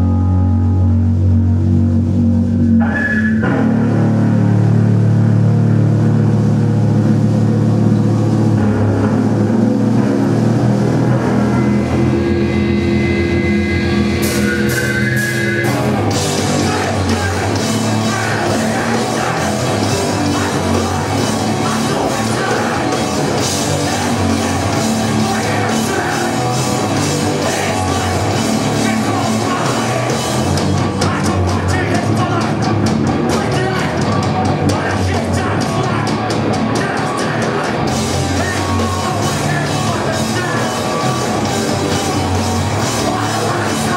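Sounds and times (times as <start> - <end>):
bass guitar: 0.0 - 43.9
electric guitar: 0.0 - 43.9
drum kit: 1.6 - 43.9.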